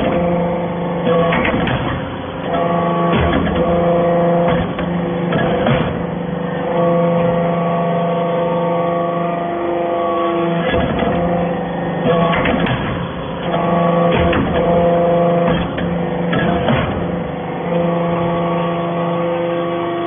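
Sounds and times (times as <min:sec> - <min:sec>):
hydraulic press humming: 0:00.0 - 0:20.0.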